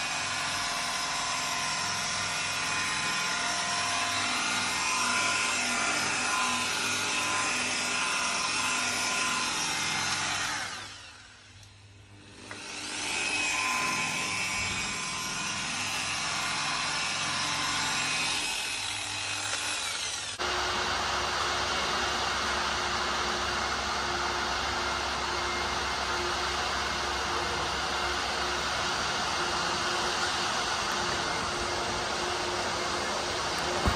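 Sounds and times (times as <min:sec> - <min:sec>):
electric polisher on metal: 0:00.0 - 0:11.5, 0:12.2 - 0:33.9.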